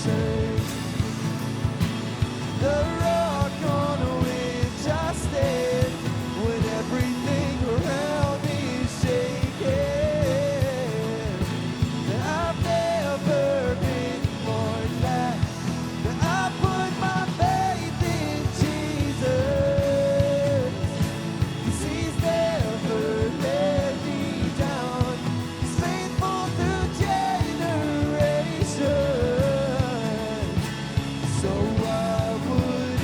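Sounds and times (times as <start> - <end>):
rock band with singing: 0.0 - 33.0.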